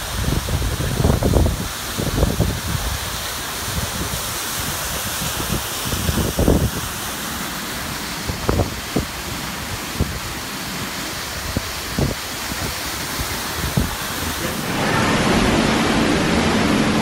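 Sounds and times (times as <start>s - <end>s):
wind buffeting microphone: 0.0s - 7.0s, 8.2s - 10.4s, 11.3s - 17.0s
waterfall cascading over rocks: 0.0s - 17.0s.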